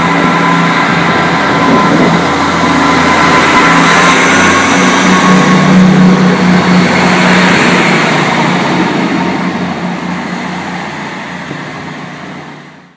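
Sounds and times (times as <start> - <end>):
diesel engines humming: 0.0 - 12.9
train rumble: 0.0 - 12.9.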